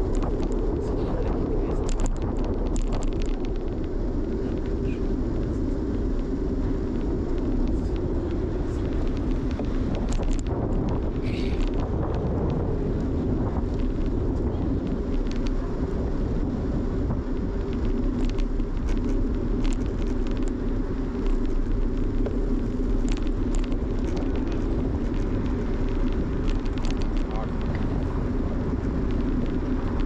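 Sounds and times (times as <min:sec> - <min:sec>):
bicycle tyres on road: 0:00.0 - 0:30.0
light clicks and rattles: 0:00.0 - 0:30.0
wind over microphone: 0:00.0 - 0:30.0.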